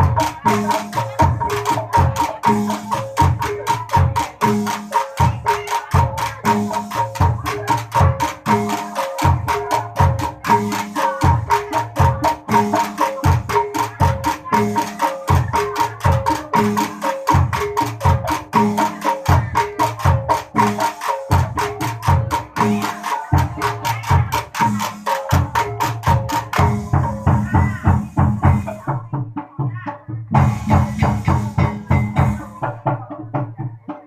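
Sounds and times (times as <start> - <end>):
drum strokes: 0.0 - 34.0.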